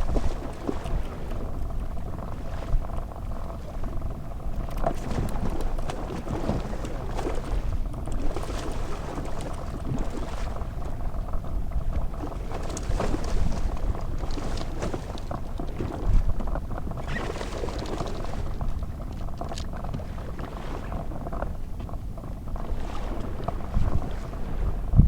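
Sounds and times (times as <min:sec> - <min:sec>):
boat motor rumble: 0:00.0 - 0:25.0
water splashing against hull: 0:00.0 - 0:25.0.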